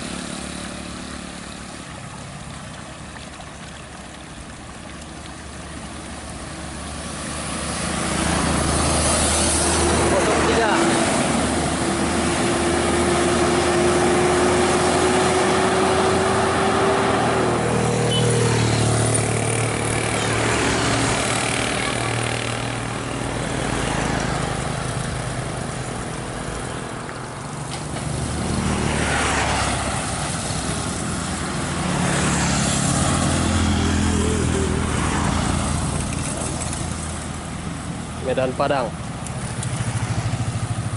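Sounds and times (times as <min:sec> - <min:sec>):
heavy vehicles passing: 0:00.0 - 0:40.9
tyres hissing on road: 0:00.0 - 0:40.9.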